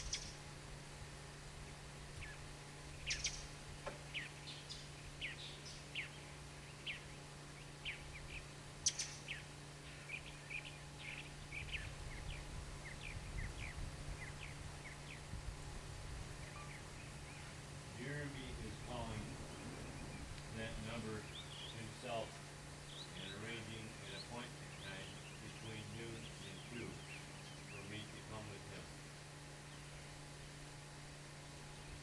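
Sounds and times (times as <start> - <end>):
small birds chirping: 0.0 - 0.6, 1.6 - 15.5, 16.2 - 31.0
steady low hum: 0.0 - 32.0.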